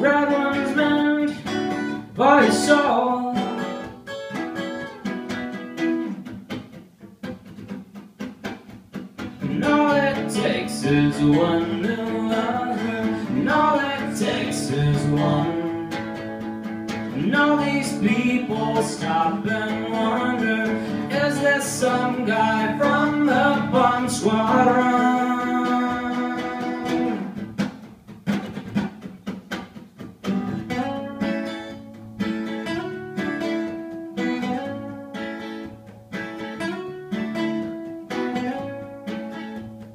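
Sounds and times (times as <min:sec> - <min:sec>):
acoustic guitars playing: 0:00.0 - 0:39.9.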